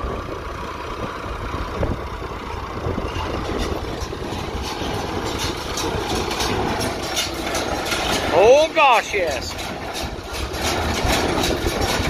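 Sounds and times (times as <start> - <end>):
tractor engine running: 0.0 - 12.0
wind buffeting microphone: 0.0 - 12.0
baler mechanical clattering: 1.8 - 12.0.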